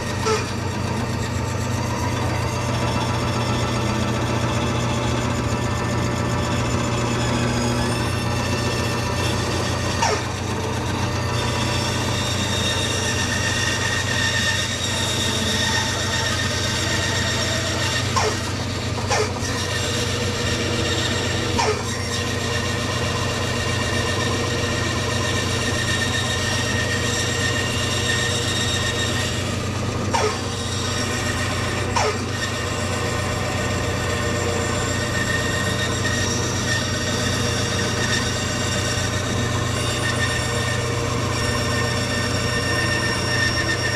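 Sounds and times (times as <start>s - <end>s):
bandsaw cutting wood: 0.0s - 43.9s.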